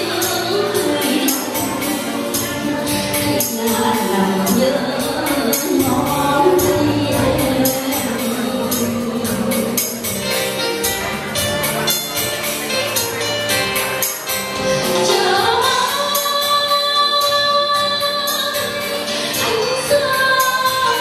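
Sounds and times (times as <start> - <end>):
woman singing into microphone: 0.0 - 10.7, 14.5 - 21.0
amplified backing music: 0.0 - 21.0.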